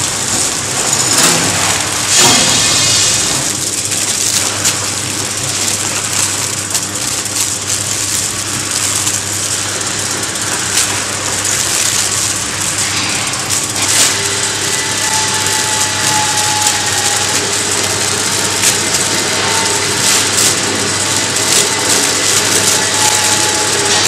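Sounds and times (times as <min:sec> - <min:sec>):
packaging machine hissing and humming: 0:00.0 - 0:24.0.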